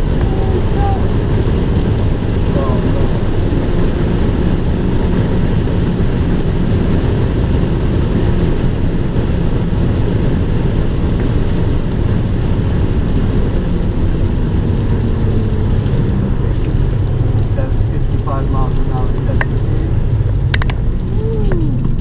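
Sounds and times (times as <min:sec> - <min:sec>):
car engine running at speed: 0:00.0 - 0:22.0
road and tyre noise: 0:00.0 - 0:22.0.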